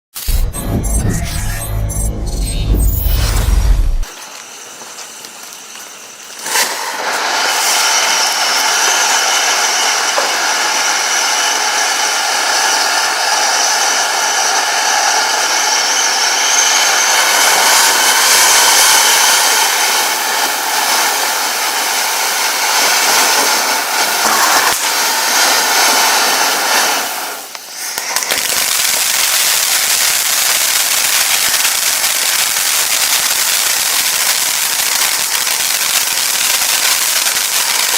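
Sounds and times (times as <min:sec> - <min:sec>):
firework hissing and whistling: 0:00.2 - 0:37.9
firework crackling: 0:01.4 - 0:37.9.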